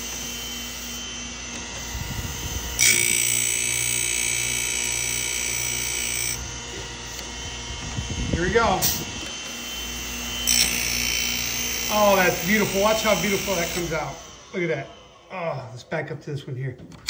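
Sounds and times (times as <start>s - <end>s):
grinder wheel grinding chain: 0.0s - 14.3s
electric motor humming: 0.0s - 15.8s.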